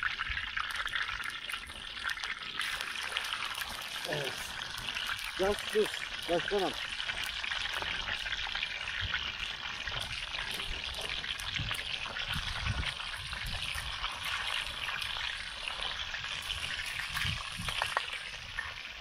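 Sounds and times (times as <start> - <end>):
fish sizzling in a pan: 0.0 - 19.0.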